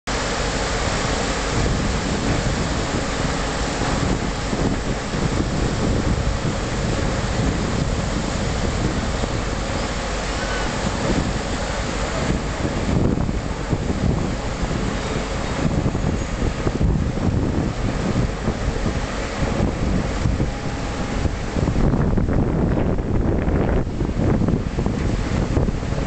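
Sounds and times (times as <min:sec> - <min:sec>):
wind buffeting microphone: 0:00.6 - 0:26.0.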